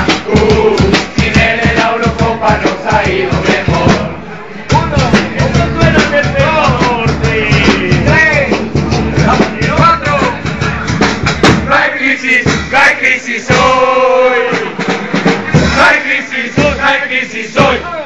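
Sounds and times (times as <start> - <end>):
drums: 0.0 - 18.0
group singing: 0.0 - 18.0.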